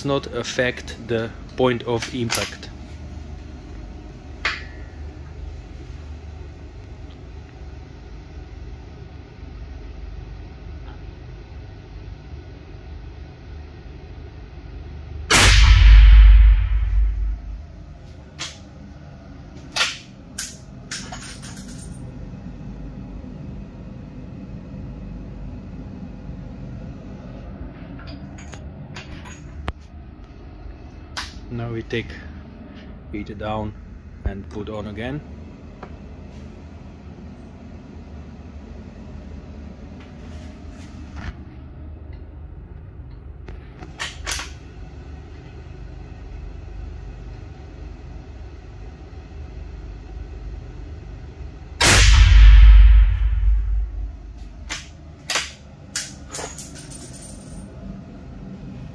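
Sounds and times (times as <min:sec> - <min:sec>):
low room rumble: 0:00.0 - 0:58.9
steady low hum: 0:00.0 - 0:58.9.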